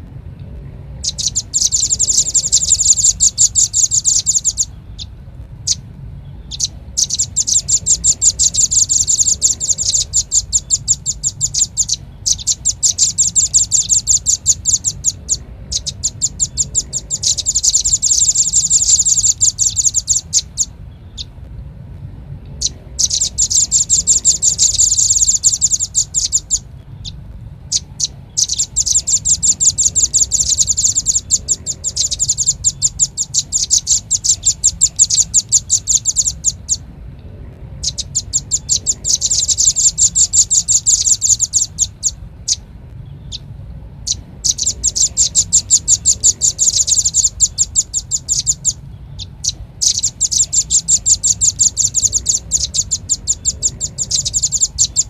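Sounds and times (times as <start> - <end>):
bird chip notes: 0.0 - 55.0
low steady hum: 0.0 - 55.0.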